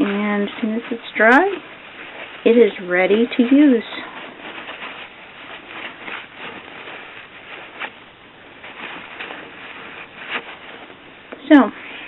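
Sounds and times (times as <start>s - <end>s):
paper towel rustling on metal: 0.0s - 12.0s.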